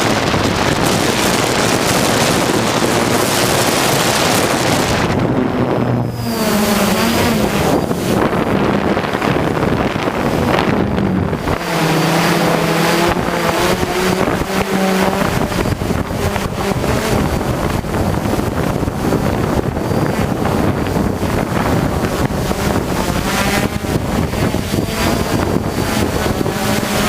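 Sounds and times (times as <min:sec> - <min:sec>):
drone propellers humming: 0:00.0 - 0:27.0
wind buffeting microphone: 0:00.0 - 0:27.0.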